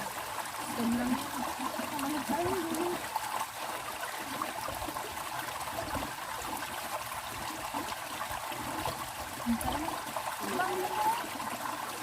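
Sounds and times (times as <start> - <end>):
stream water trickling: 0.0 - 12.0.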